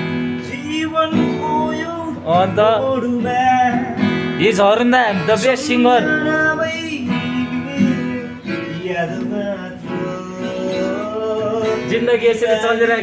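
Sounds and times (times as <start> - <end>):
acoustic guitar: 0.0 - 13.0
man singing slow song: 0.1 - 13.0.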